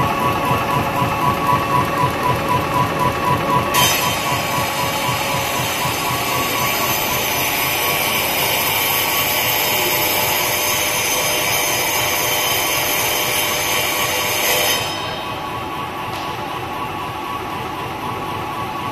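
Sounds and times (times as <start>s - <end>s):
die-cutting machine whirring: 0.0s - 18.9s.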